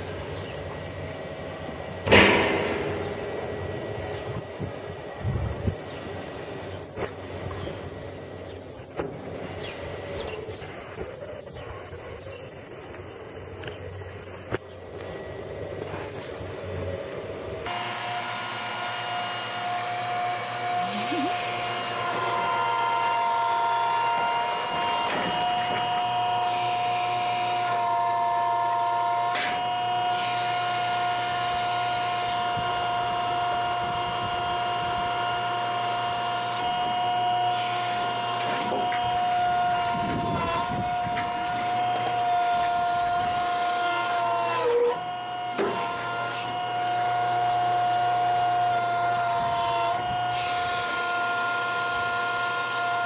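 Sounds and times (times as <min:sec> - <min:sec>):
crane motors whining: 0:00.0 - 0:53.0.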